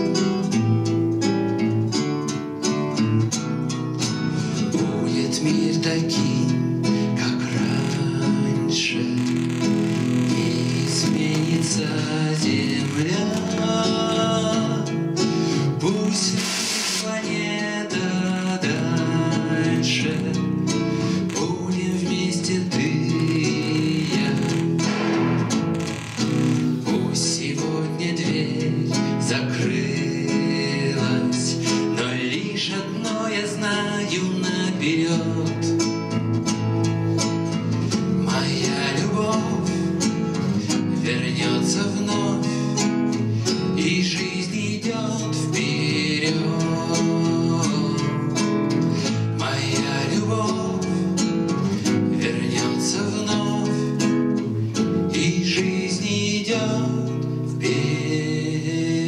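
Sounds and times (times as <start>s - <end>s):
classical guitar: 0.0s - 59.0s
man singing: 4.0s - 36.5s, 37.8s - 59.0s.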